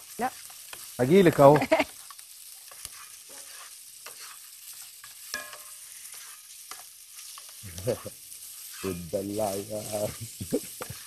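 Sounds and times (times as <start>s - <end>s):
onions sizzling in a pot: 0.0s - 11.0s
spoon stirring and scraping: 0.0s - 11.0s.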